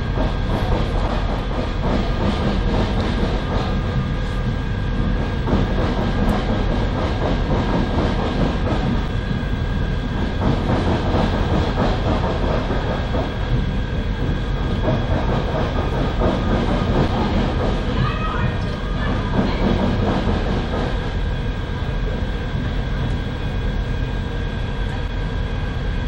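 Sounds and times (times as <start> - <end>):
low rumble of tram: 0.0 - 26.0
steady whining tones: 0.0 - 26.0.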